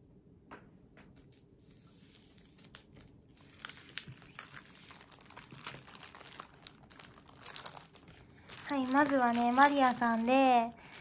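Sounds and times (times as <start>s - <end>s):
plastic sleeves crinkling: 1.2s - 11.0s.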